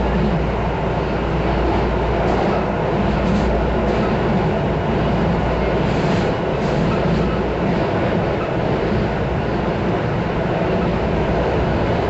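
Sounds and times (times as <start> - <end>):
train wheels and motors rumbling: 0.0 - 12.0.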